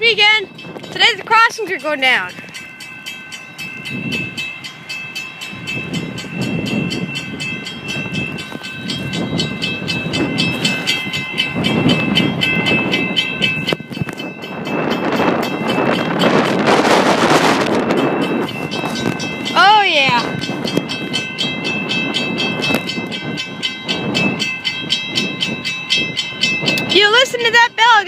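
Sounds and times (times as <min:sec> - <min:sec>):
railroad crossing bells ringing: 0:00.0 - 0:28.0.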